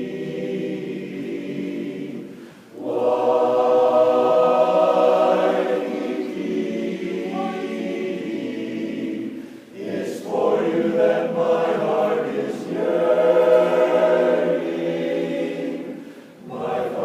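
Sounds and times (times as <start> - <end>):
choir singing chords: 0.0 - 17.0.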